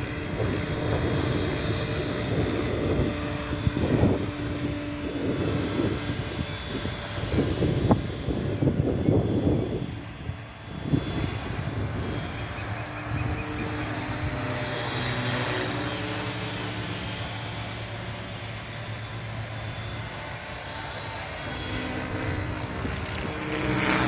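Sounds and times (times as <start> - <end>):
rc helicopter rotor hum: 0.0 - 24.0.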